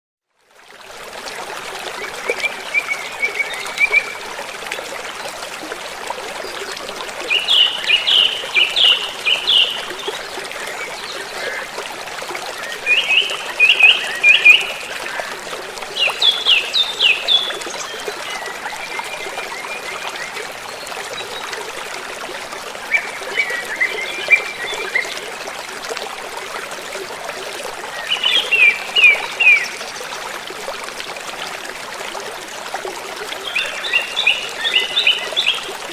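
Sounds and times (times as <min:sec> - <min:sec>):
stream flowing: 0:00.4 - 0:35.9.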